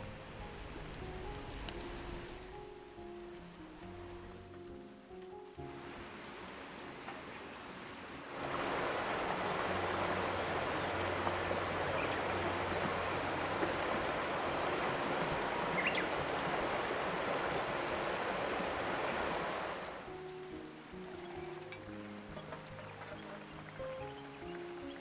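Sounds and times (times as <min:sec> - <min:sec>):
faint background music: 0:00.0 - 0:19.2, 0:19.9 - 0:25.0
river water rushing: 0:05.0 - 0:25.0.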